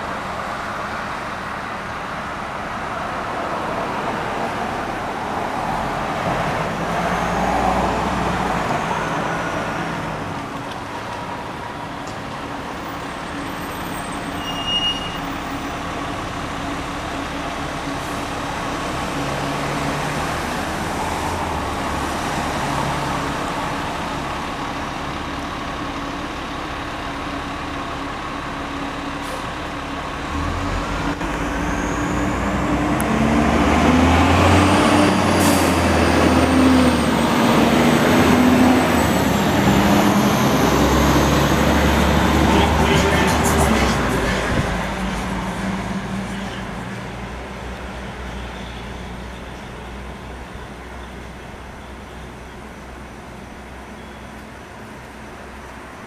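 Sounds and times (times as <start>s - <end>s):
fire engine approaching: 0.0s - 56.0s
street traffic noise: 0.0s - 56.0s.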